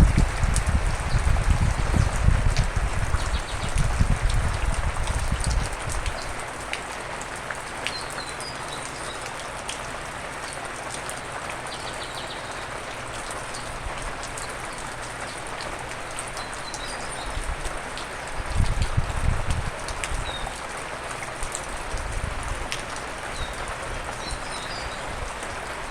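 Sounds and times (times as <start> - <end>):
raindrops ticking: 0.0 - 25.9
steady rain falling: 0.0 - 25.9.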